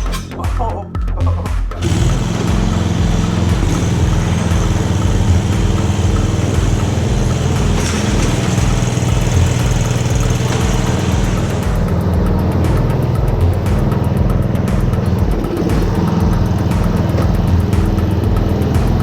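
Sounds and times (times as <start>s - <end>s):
riding lawn mower engine running: 1.8s - 19.0s.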